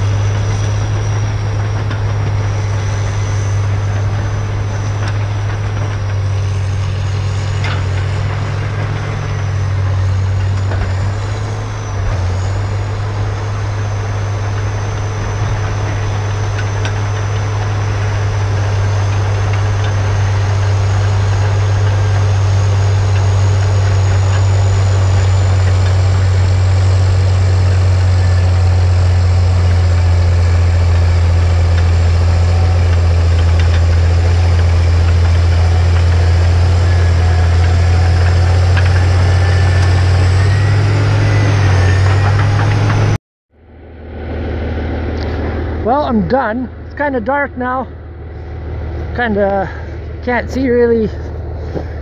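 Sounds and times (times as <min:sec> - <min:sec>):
high whine: 0:00.0 - 0:52.0
loud machine hum: 0:00.0 - 0:52.0.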